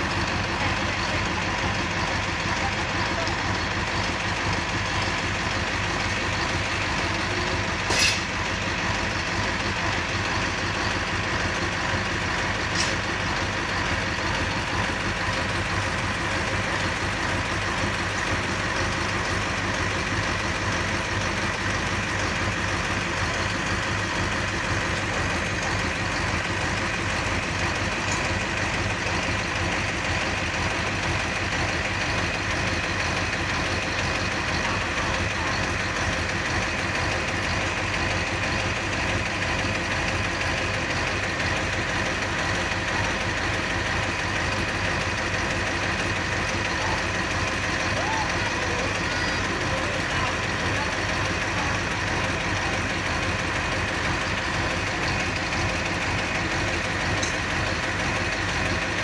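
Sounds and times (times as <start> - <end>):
heavy crane engine idling: 0.0 - 59.0.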